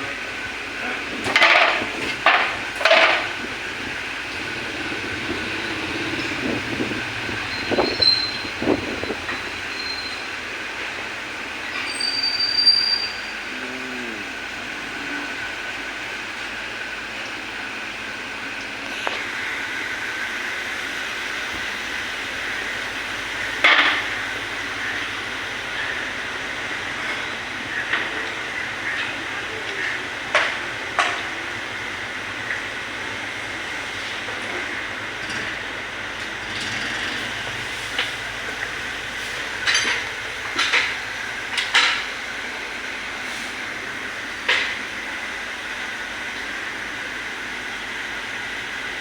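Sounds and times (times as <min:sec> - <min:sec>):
hissing mechanical whir: 0:00.0 - 0:49.0.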